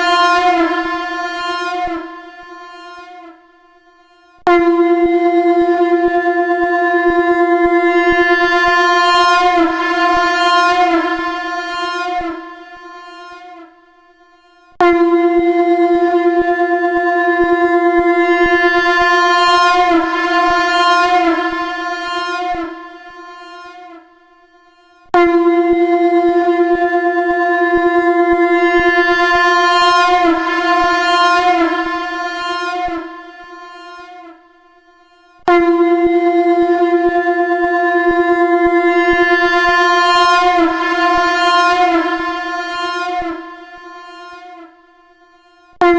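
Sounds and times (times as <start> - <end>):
conch shell blown: 0.0 - 45.9.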